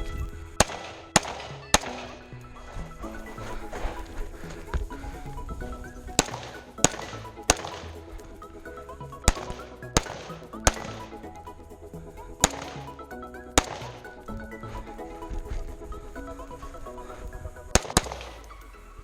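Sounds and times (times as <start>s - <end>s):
background music with melody: 0.0s - 19.0s
rifle shots: 0.6s - 5.1s, 5.7s - 16.4s, 17.1s - 18.6s.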